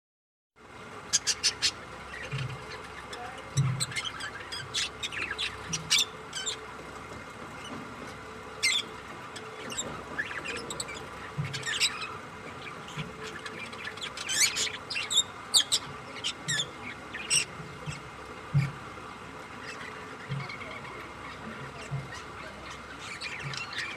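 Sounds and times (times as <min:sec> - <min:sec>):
parrots chirping and squawking: 0:01.0 - 0:23.9.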